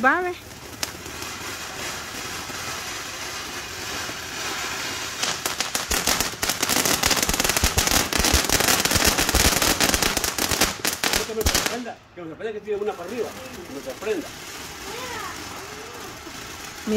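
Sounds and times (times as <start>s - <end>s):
firework fountain hissing and crackling: 0.0s - 16.9s.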